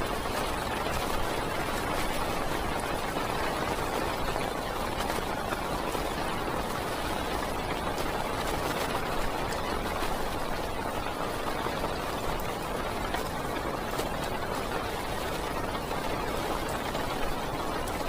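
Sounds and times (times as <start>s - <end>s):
heavy rain hiss on car: 0.0s - 18.0s
raindrops ticking on glass: 0.0s - 18.0s.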